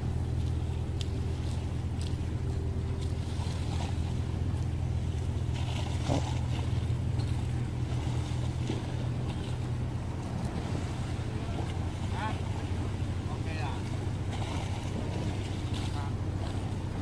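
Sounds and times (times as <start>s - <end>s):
low engine hum: 0.0s - 17.0s
sea noise: 0.0s - 17.0s.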